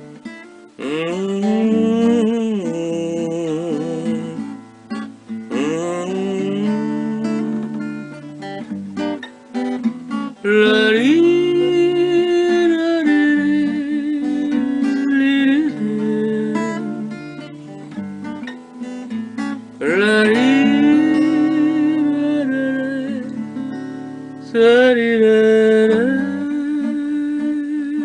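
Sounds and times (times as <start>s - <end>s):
acoustic guitar song: 0.0s - 28.0s.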